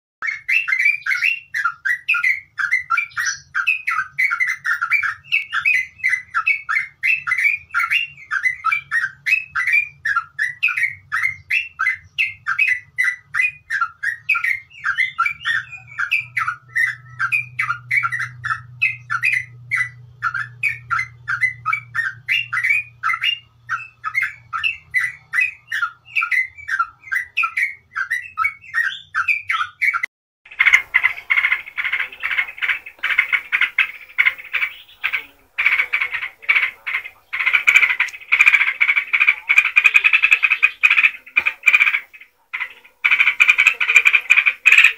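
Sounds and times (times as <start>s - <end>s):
bulbul singing fast chirps: 0.2s - 44.9s.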